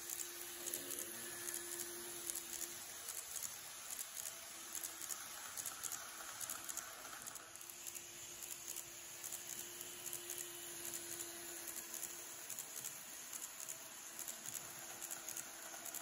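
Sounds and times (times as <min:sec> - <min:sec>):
faint motor hum: 0:00.0 - 0:16.0
model train wheels clattering: 0:00.0 - 0:16.0.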